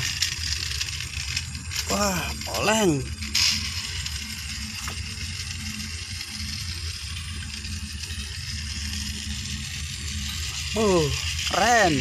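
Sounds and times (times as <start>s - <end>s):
toy train motor humming: 0.0s - 12.0s.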